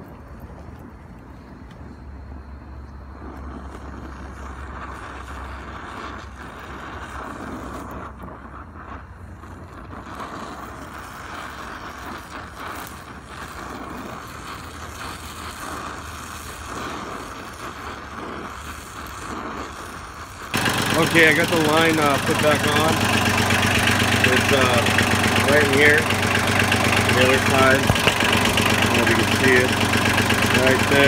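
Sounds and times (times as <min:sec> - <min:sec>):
torch flame hissing and roaring: 0:01.9 - 0:31.0.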